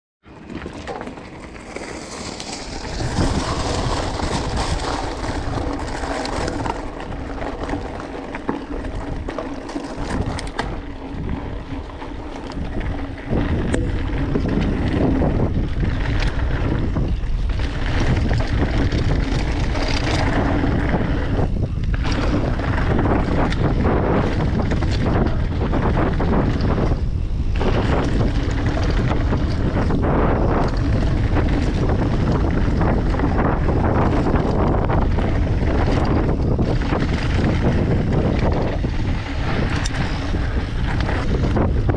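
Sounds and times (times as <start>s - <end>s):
wind buffeting microphone: 0.4s - 41.9s.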